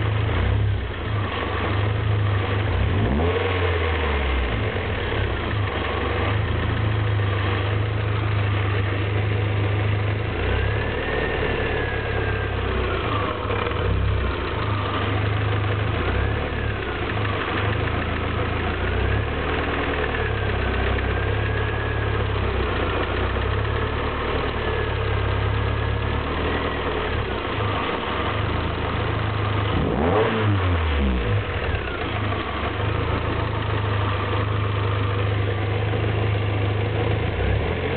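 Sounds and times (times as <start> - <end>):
car engine running at low revs: 0.0 - 37.9
slight engine ticking: 5.2 - 37.4.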